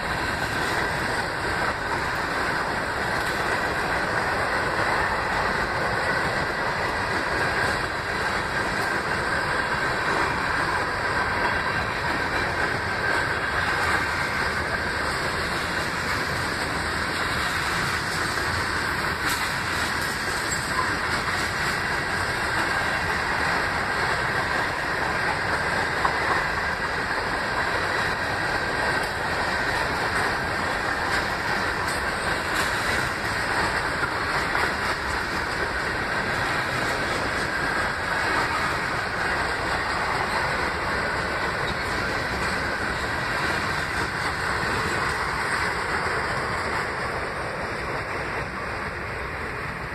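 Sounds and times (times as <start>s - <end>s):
freight train rolling by: 0.0s - 49.9s.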